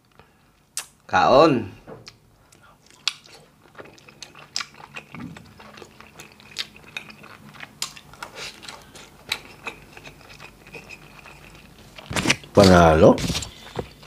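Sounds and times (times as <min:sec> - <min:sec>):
person chewing food: 0:02.0 - 0:12.8, 0:13.4 - 0:14.0.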